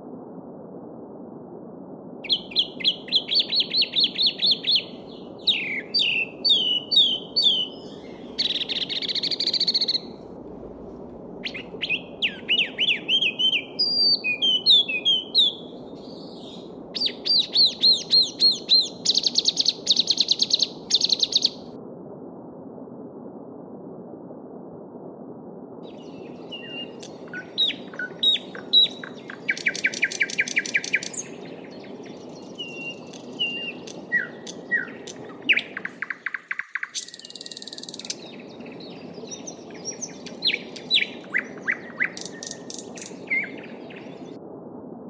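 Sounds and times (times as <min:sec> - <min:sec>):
small birds singing: 0:02.2 - 0:10.2, 0:11.4 - 0:21.6, 0:25.9 - 0:44.4.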